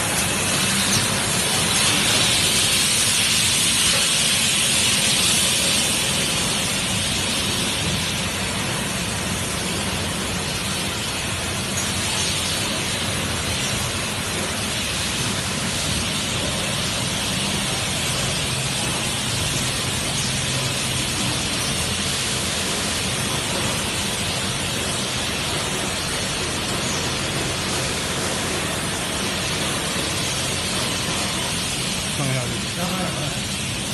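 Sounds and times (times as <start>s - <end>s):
shrink-wrapping machine hiss: 0.0s - 33.9s.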